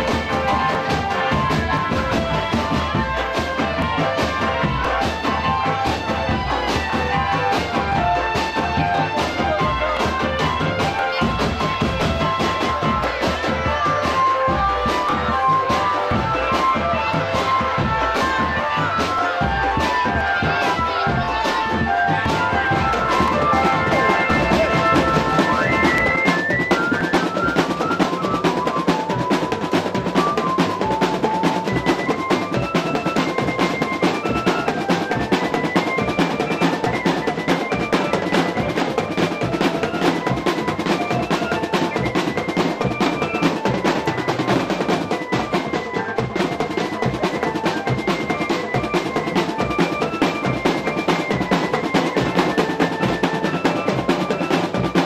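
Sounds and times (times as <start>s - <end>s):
marching drums: 0.0s - 55.0s
high melody of short notes: 7.7s - 55.0s.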